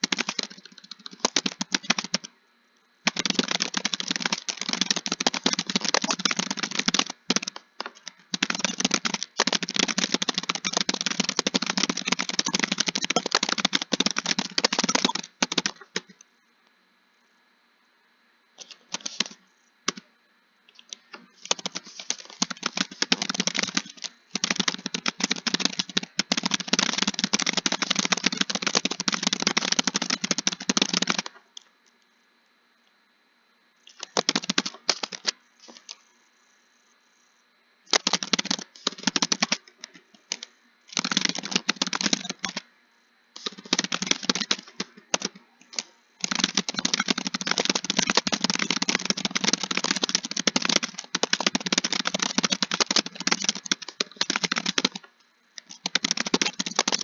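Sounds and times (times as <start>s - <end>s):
computer keyboard typing: 0.0s - 2.3s, 3.1s - 16.2s, 18.6s - 20.0s, 20.8s - 31.4s, 33.9s - 35.9s, 37.9s - 42.7s, 43.4s - 57.0s.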